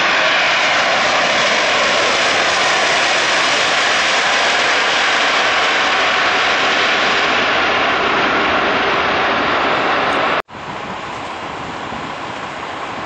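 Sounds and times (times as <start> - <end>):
loud jet engine noise: 0.0 - 13.0
steady outdoor rumble: 0.0 - 13.0.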